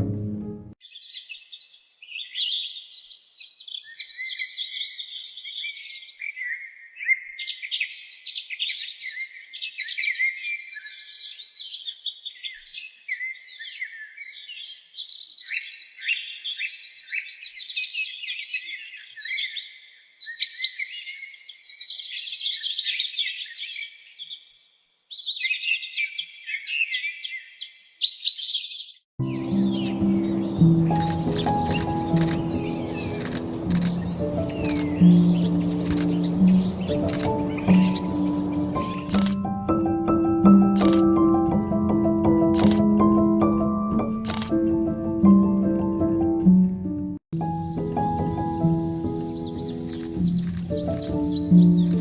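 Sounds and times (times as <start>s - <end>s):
songbirds chirping: 0.8s - 43.3s, 45.3s - 52.0s.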